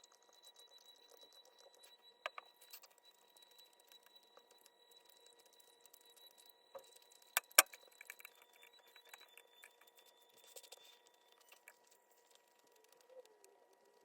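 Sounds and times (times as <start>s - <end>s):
small clicks and ticks: 0.0s - 14.0s.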